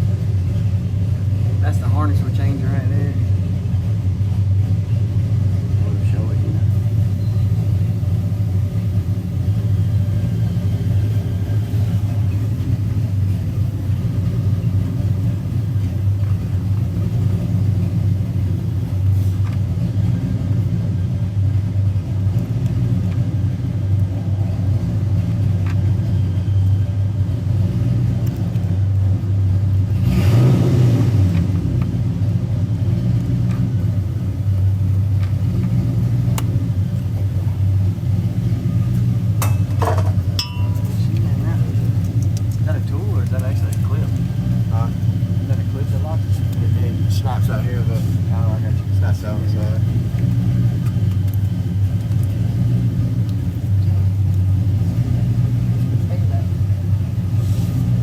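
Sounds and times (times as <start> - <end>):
car engine rumbling: 0.0 - 58.0.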